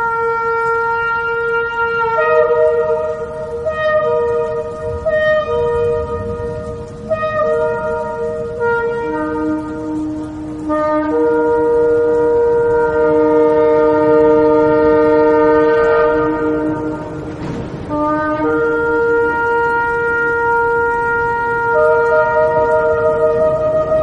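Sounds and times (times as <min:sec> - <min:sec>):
ram's horn blasts: 0:00.0 - 0:24.0.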